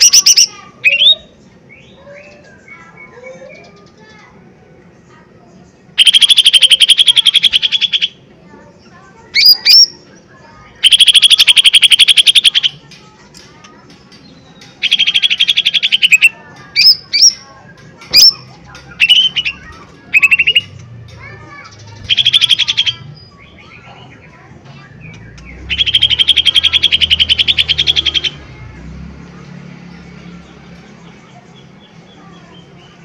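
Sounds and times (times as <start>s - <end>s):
bird singing stuttering trills: 0.0s - 4.3s, 5.7s - 33.0s.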